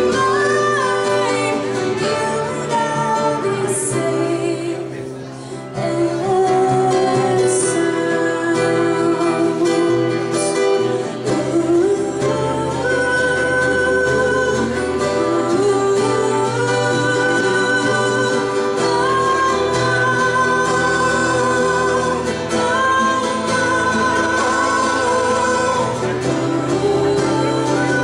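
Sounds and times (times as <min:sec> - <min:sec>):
acoustic guitars playing: 0:00.0 - 0:28.0
woman and man singing: 0:00.0 - 0:28.0.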